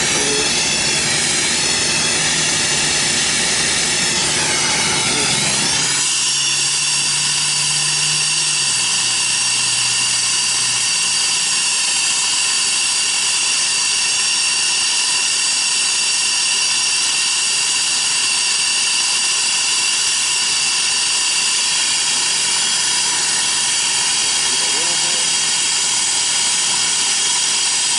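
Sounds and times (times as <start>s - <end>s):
torch flame hissing: 0.0s - 27.9s.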